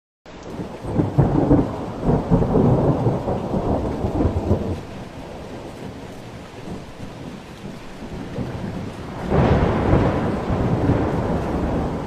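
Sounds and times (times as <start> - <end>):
heavy rain: 0.3 - 12.0
thunder rumbling: 0.4 - 12.0.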